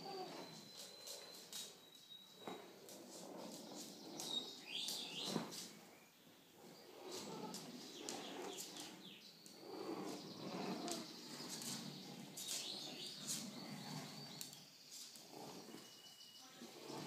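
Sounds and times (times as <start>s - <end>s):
faint high squeaks: 0.0s - 5.8s, 6.6s - 17.0s.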